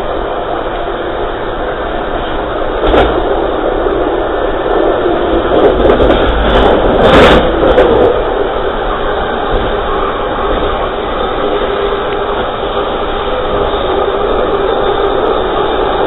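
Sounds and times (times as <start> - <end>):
train rushing noise: 0.0 - 16.0
train wheel rumble: 0.0 - 16.0
wind: 0.0 - 16.0.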